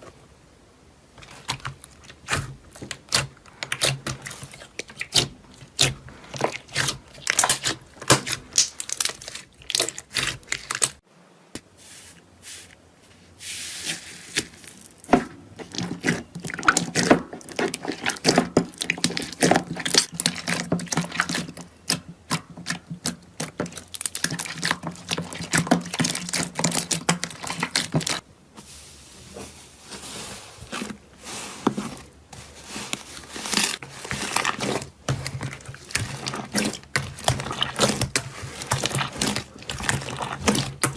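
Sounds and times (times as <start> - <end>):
slime squishing and crackling: 1.2 - 11.0, 14.3 - 28.2, 30.6 - 40.9.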